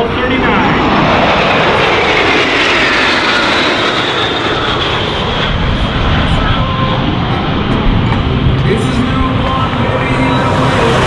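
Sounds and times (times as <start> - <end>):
jets flying overhead: 0.0 - 11.0.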